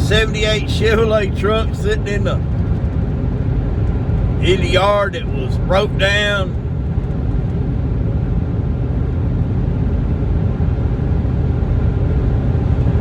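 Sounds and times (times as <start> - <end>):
road and engine rumble in cabin: 0.0 - 13.0.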